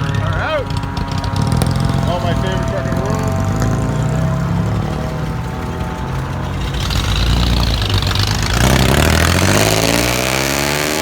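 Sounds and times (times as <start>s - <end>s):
vehicle engine rumbling and revving: 0.0s - 11.0s.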